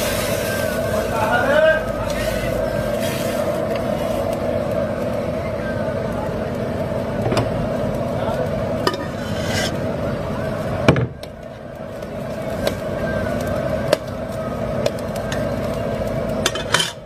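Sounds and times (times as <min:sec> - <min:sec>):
broth boiling in a pan: 0:00.0 - 0:17.0.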